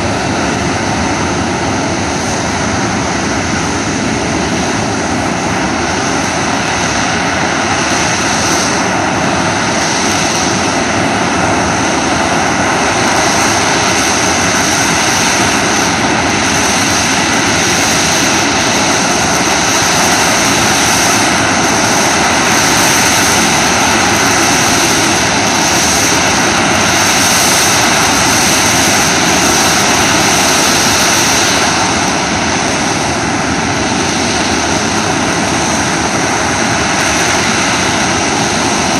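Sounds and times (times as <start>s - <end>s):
high turbine whine: 0.0s - 38.9s
jet engines roaring: 0.0s - 38.9s.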